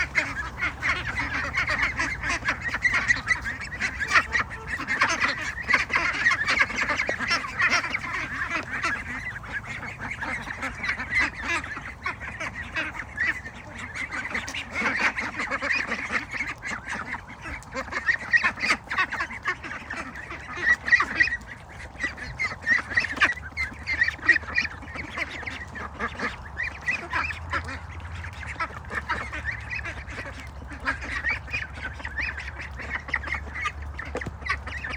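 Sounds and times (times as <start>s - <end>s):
ducks quacking: 0.0s - 34.9s.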